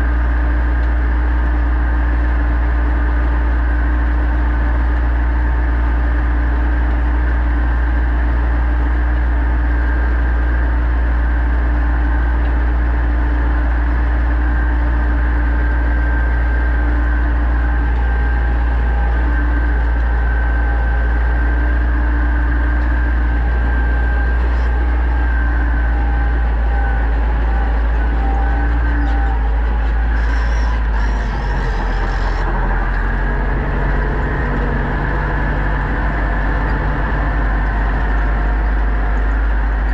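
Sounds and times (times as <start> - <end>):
tractor diesel engine drone: 0.0 - 39.9.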